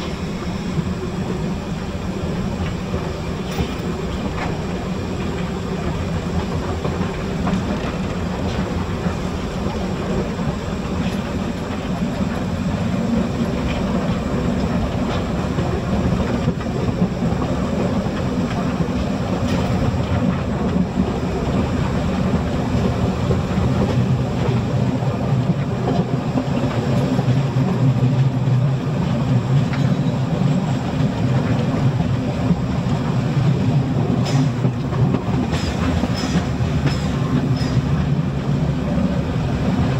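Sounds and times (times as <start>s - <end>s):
train rumbling: 0.0s - 39.9s
wheels clattering over rails: 2.2s - 39.9s.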